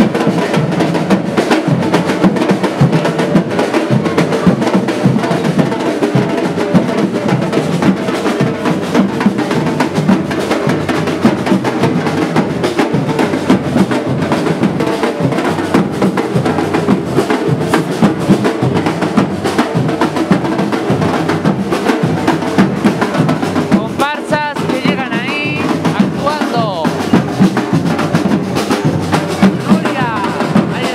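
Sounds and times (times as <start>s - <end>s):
samba drum ensemble playing: 0.0s - 30.9s.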